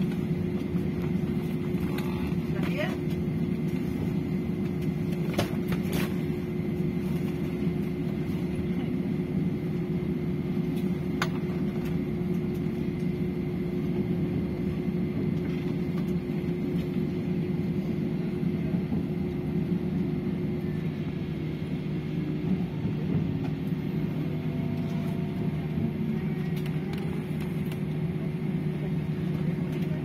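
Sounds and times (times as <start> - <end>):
airplane cabin rumble: 0.0 - 30.0
constant hum: 0.0 - 30.0.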